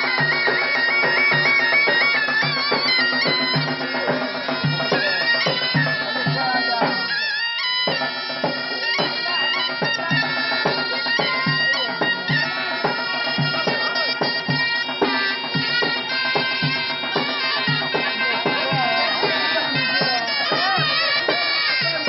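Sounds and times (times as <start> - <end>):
shrill reed pipes playing: 0.0 - 22.0
steady drum beat: 0.0 - 22.0.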